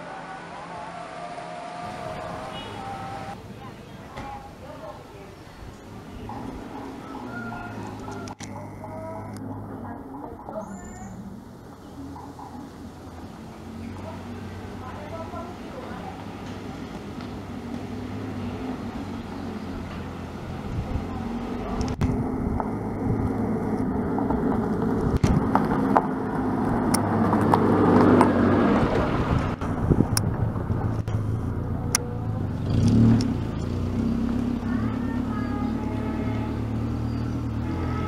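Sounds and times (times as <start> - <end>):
vehicle engines humming: 0.0 - 38.0.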